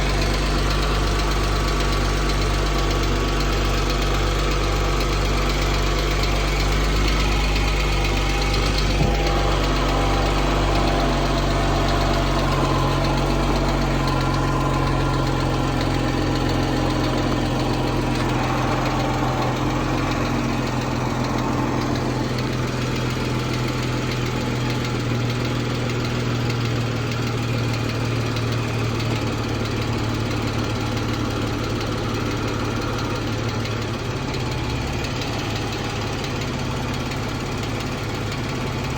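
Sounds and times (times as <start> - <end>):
car engine idling: 0.0 - 38.9
engine ticking: 0.0 - 38.9.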